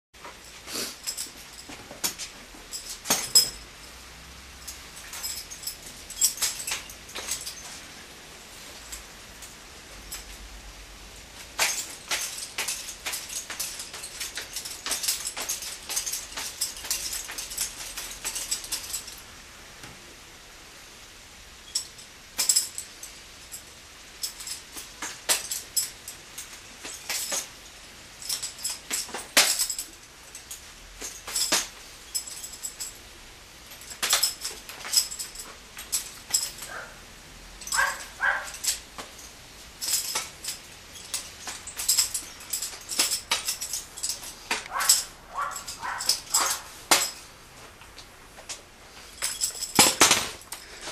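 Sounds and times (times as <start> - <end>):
rifles clicking and clinking: 0.2 - 4.0, 4.6 - 8.0, 11.2 - 19.2, 24.1 - 33.1, 33.7 - 37.0, 37.6 - 50.9.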